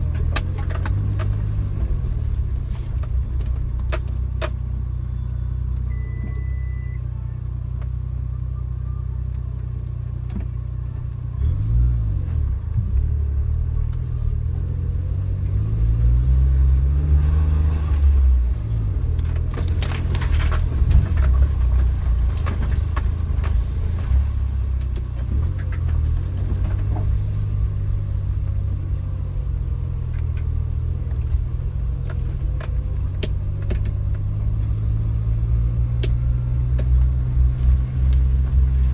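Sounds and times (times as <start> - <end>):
car engine revving: 0.0 - 6.9, 10.0 - 38.9.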